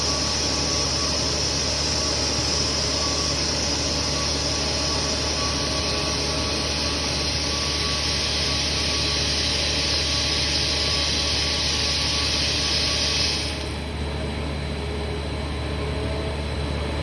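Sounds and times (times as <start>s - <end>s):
lathe machine running: 0.0s - 17.0s.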